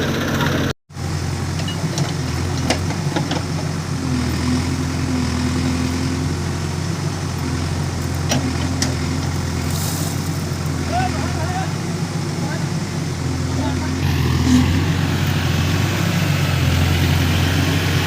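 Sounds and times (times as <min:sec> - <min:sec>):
heavy diesel engine humming: 0:00.0 - 0:18.0.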